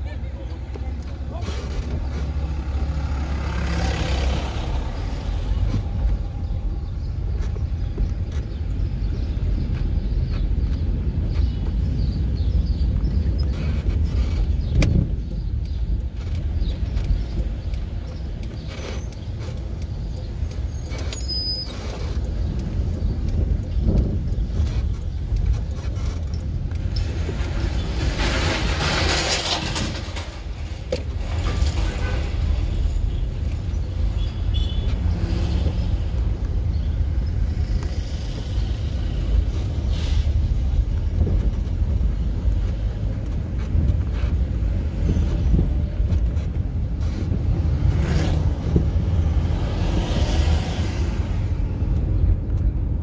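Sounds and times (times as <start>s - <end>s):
engine and tyre rumble: 0.0s - 53.0s.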